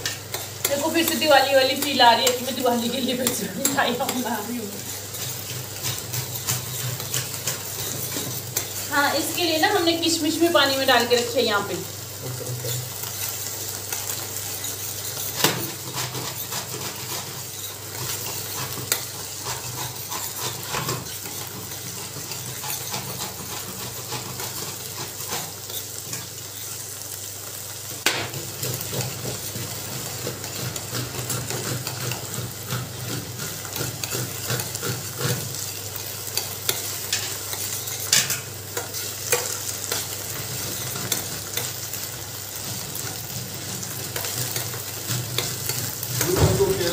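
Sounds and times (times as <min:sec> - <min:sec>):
food sizzling in ghee: 0:00.0 - 0:46.9
spatula stirring and scraping: 0:00.0 - 0:46.9.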